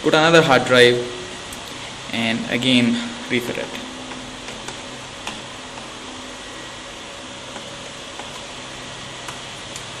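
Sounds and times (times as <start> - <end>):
room hiss: 0.0 - 10.0.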